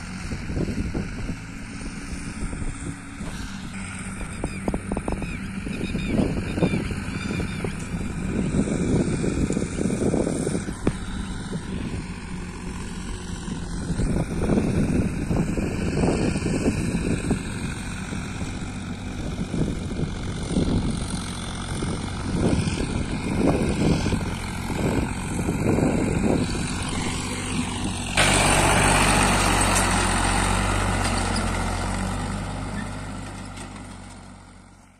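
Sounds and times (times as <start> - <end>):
cultivator working soil: 0.0 - 34.9
tractor engine under load: 0.0 - 34.9
wind noise on microphone: 0.1 - 28.2.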